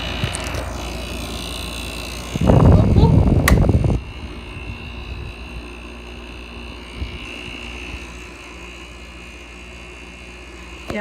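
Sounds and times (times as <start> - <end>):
window air conditioner humming: 0.0 - 11.0.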